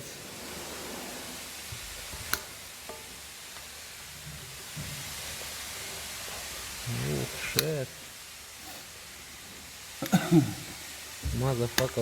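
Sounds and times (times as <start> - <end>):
steady workshop hiss: 0.0 - 12.0.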